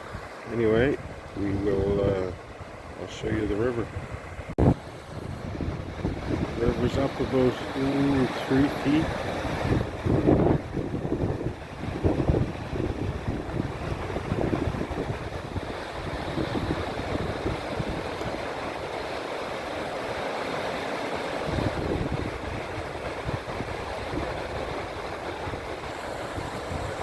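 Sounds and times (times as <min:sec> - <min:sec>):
wind buffeting microphone: 0:00.0 - 0:19.2, 0:21.4 - 0:27.0
river rushing: 0:00.0 - 0:27.0.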